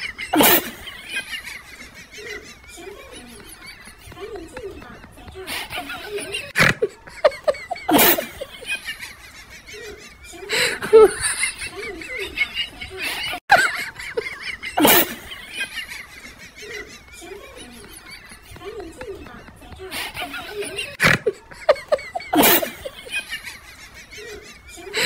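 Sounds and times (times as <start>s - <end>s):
people laughing and squealing: 0.0s - 25.0s.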